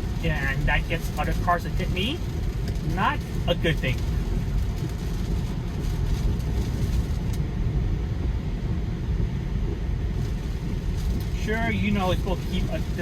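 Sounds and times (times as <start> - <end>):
road and tyre noise: 0.0 - 13.0
wind and rain: 0.0 - 13.0.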